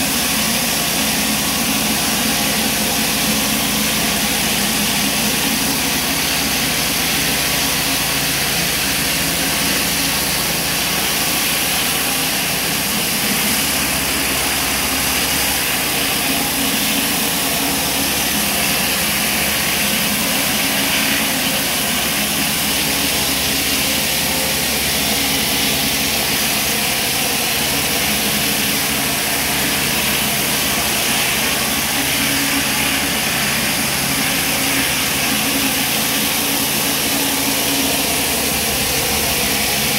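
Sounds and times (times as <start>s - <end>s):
pressure washer engine running: 0.0s - 39.9s
water jets hissing on paving: 0.0s - 39.9s.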